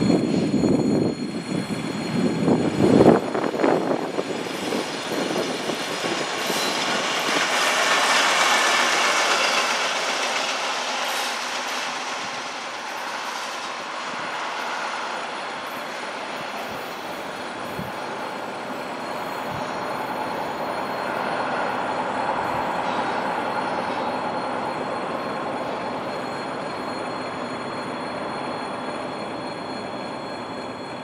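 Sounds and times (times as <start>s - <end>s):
rail car rolling on track: 0.0s - 31.0s.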